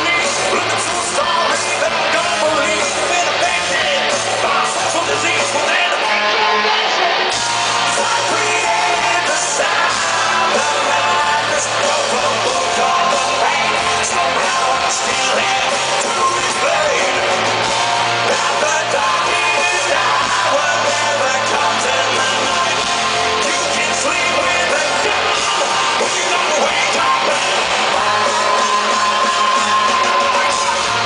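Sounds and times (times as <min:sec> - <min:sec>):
drums: 0:00.0 - 0:31.0
loud electric guitars: 0:00.0 - 0:31.0
person singing: 0:00.0 - 0:31.0.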